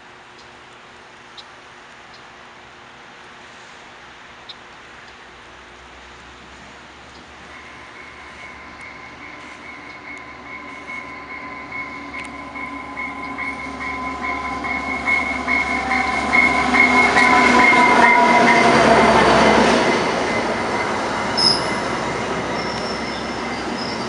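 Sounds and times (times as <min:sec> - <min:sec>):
diesel train passing: 0:00.0 - 0:24.0
train cars rolling on rails: 0:00.0 - 0:24.0.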